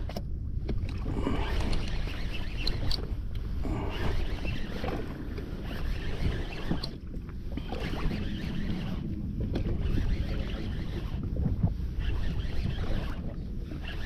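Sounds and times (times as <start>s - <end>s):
water lapping against boat: 0.0s - 14.0s
wind buffeting microphone: 0.0s - 14.0s.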